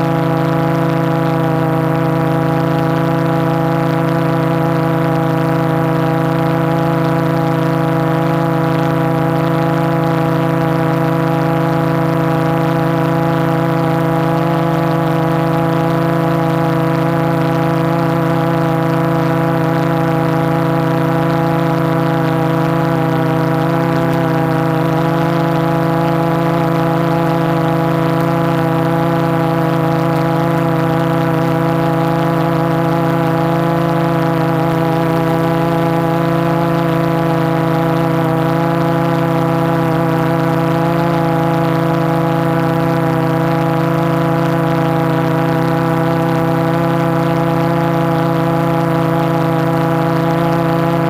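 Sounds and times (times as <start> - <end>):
drone motors humming: 0.0 - 51.0.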